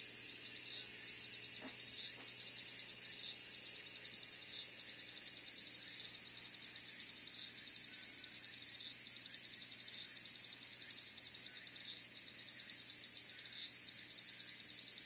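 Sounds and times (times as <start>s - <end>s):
insects trilling: 0.0s - 15.0s
loud insect chirps: 0.0s - 15.0s.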